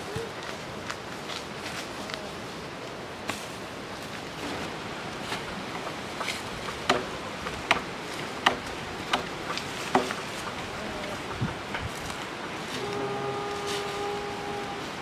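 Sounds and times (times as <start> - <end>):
faint outdoor hiss: 0.0 - 15.0
footsteps crunching through dry leaves: 0.1 - 6.9, 9.5 - 14.8.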